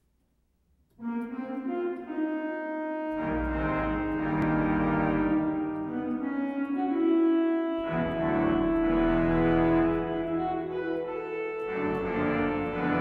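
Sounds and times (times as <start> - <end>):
pipe organ chords: 1.0 - 13.0.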